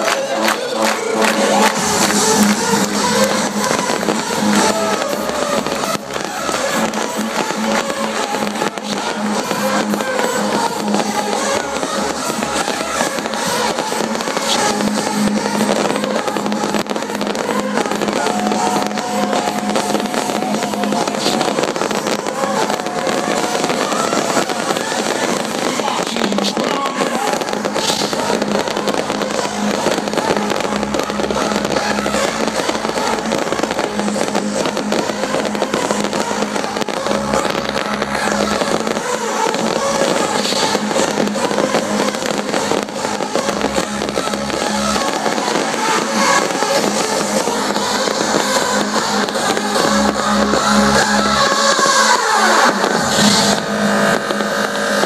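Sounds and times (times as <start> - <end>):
fireworks crackling and popping: 0.0 - 55.0
loud hardstyle music: 0.0 - 55.0.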